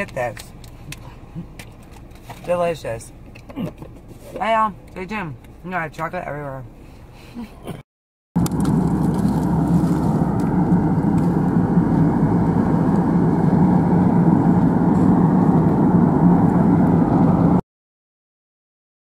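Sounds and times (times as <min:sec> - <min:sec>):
car road and engine noise: 0:00.0 - 0:07.8, 0:08.4 - 0:17.6.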